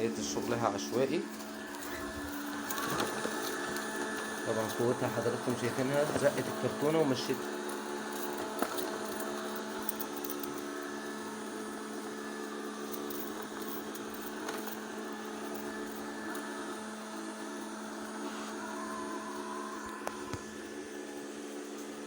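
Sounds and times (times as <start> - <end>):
robot vacuum cleaner running: 0.0 - 22.0.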